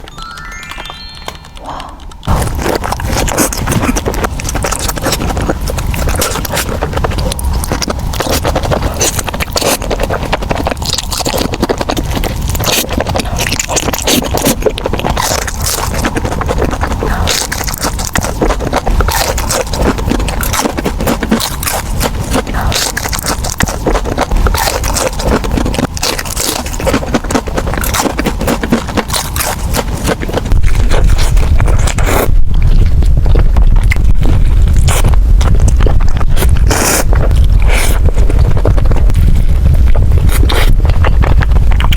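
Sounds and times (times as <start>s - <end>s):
crunching fried chicken: 0.0s - 41.9s.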